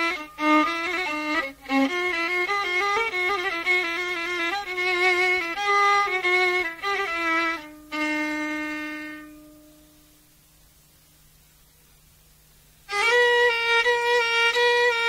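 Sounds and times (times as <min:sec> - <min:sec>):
solo violin improvising: 0:00.0 - 0:10.1, 0:12.8 - 0:15.0.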